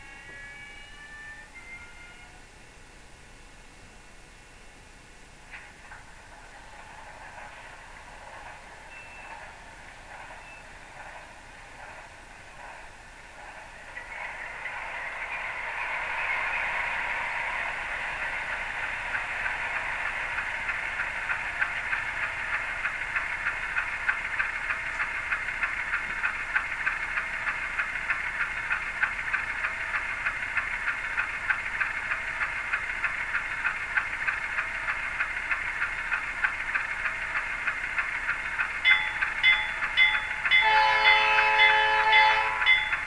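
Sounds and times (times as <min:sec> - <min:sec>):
model train engine sound: 0:00.0 - 0:43.0.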